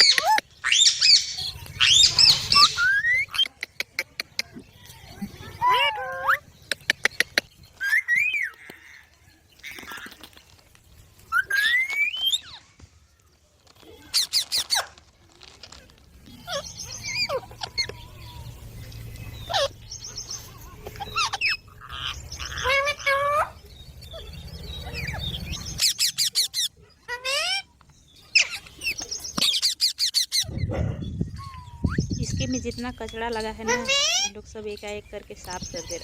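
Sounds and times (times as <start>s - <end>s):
parrots chirping and squawking: 0.0s - 4.1s, 5.1s - 9.0s, 9.6s - 10.6s, 11.2s - 12.8s, 13.8s - 15.1s, 16.2s - 34.6s.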